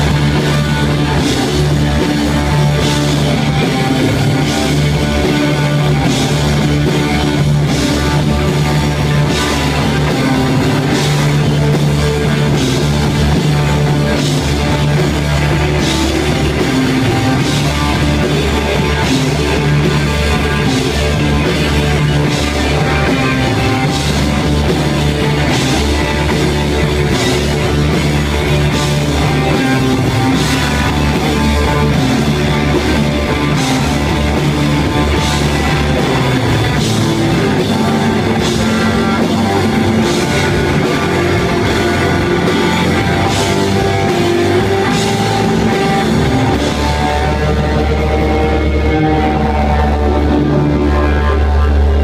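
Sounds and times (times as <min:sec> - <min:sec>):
live rock band playing: 0:00.0 - 0:52.0.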